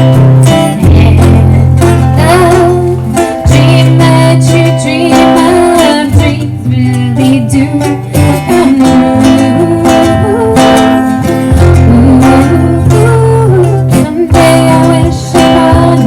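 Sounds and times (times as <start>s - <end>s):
person singing: 0.0s - 16.0s
strummed acoustic guitar: 0.0s - 16.0s.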